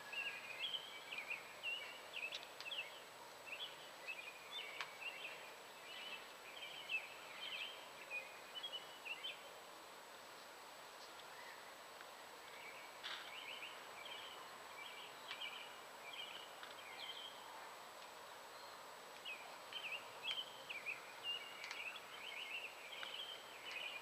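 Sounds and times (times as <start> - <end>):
faint outdoor background noise: 0.0 - 24.0
small birds chirping: 0.1 - 9.5, 12.4 - 24.0.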